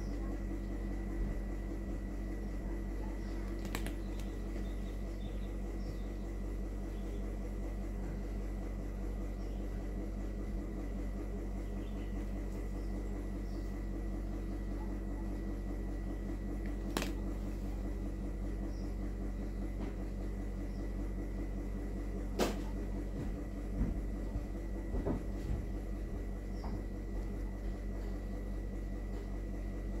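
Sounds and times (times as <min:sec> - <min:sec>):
machine hum with high whine: 0:00.0 - 0:30.0.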